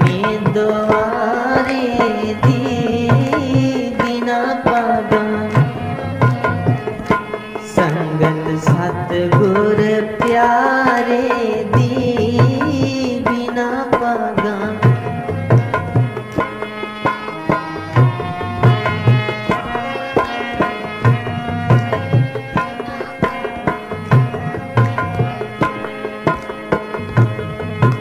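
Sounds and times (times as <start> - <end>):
tabla rhythm with deep bass strokes: 0.0 - 28.0.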